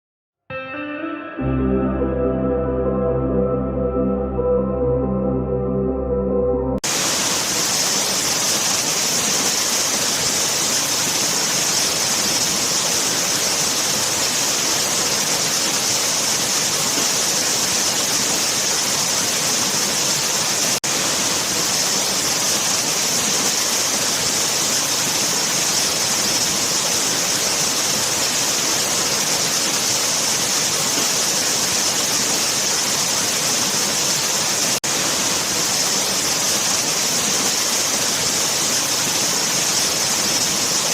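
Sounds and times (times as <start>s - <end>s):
waterfall rushing: 6.8s - 40.9s.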